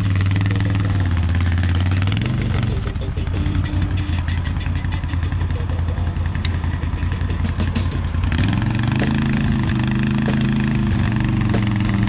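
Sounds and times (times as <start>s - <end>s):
atv engine running: 0.0s - 12.0s
music with steady beat: 2.0s - 12.0s.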